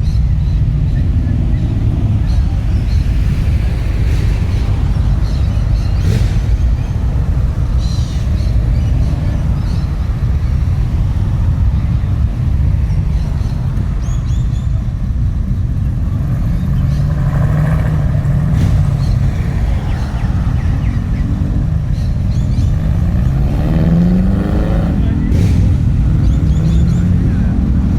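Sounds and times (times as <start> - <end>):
car engine rumbling: 0.0 - 27.9.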